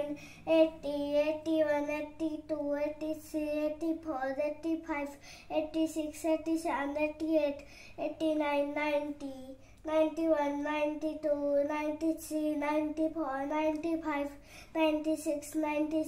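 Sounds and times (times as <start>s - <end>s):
boy counting in sing-song voice: 0.0s - 16.0s.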